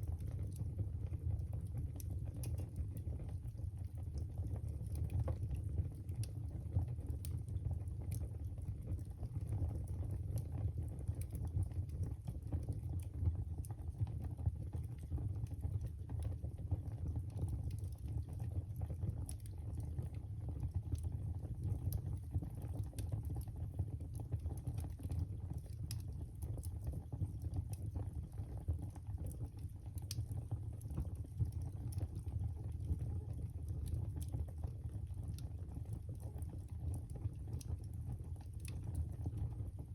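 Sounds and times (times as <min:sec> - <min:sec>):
fire crackles and pops: 0:00.0 - 0:39.9
low rumble of flames: 0:00.0 - 0:39.9.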